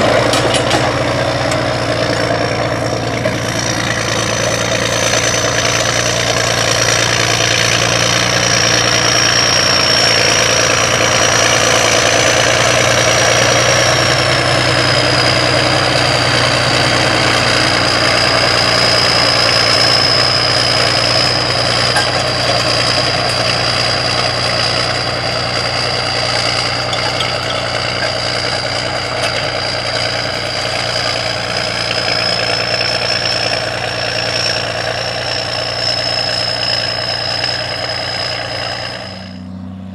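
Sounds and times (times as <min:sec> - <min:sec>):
diesel tractor running: 0:00.0 - 0:39.9
high whine: 0:00.0 - 0:39.9.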